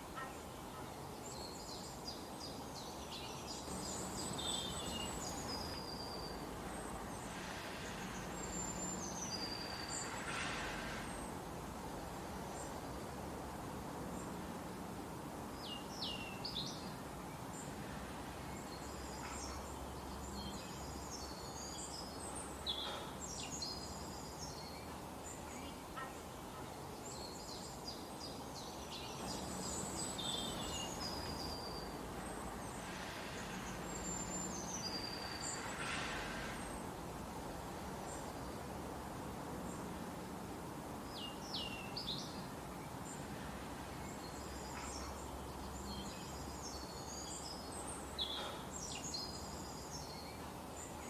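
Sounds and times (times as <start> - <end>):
small birds chirping: 0.0 - 13.0, 14.1 - 51.0
outdoor background hiss: 0.0 - 51.0.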